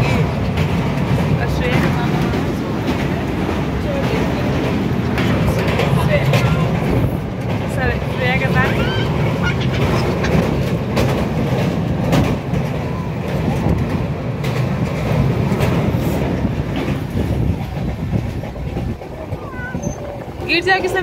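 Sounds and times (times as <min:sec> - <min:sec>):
train interior rumble: 0:00.0 - 0:21.0
wheels clacking over rail joints: 0:00.0 - 0:21.0.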